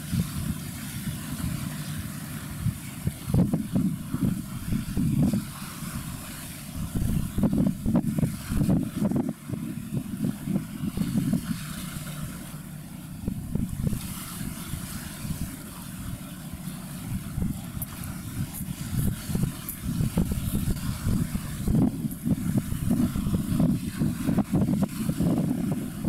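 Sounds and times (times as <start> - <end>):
wind buffeting the microphone: 0.0 - 26.0.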